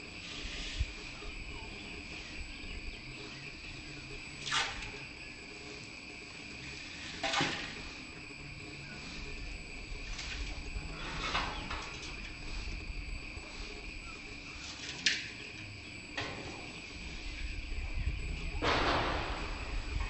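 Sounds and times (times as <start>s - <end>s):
noisy rasp: 0.0s - 18.6s
insect chirring: 0.0s - 20.0s.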